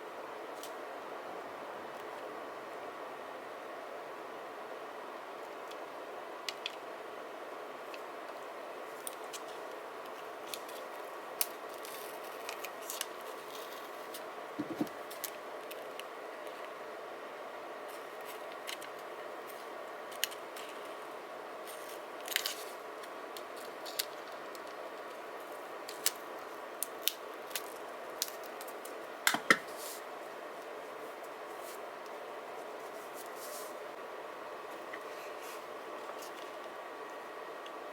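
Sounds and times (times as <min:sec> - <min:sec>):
steady room hiss: 0:00.0 - 0:37.9.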